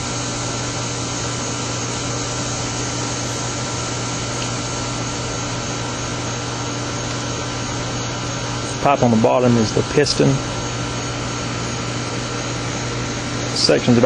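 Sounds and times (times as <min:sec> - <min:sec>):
steady motor hum: 0:00.0 - 0:14.0
constant hiss: 0:01.1 - 0:14.0.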